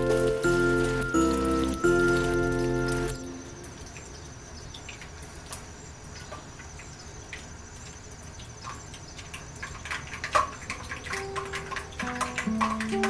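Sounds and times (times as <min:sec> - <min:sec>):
deep-frying sizzle: 0:00.0 - 0:13.0
oil popping and crackling: 0:00.0 - 0:13.0.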